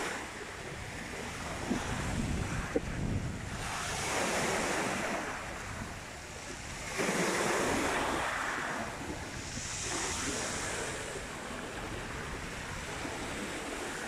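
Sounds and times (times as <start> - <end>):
waves washing up pebble beach: 0.0 - 14.0
wind rumble on microphone: 0.0 - 14.0.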